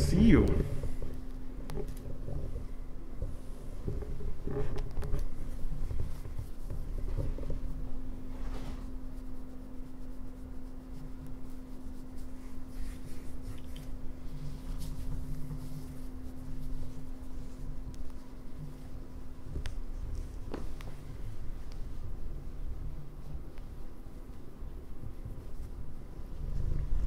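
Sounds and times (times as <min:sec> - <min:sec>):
steady low hum: 0:00.0 - 0:27.0
fabric and fur rustling: 0:00.2 - 0:27.0.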